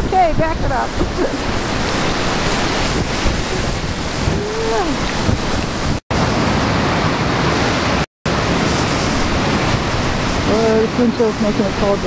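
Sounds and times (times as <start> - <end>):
waves breaking on shore: 0.0 - 12.0
wind buffeting microphone: 0.0 - 12.0.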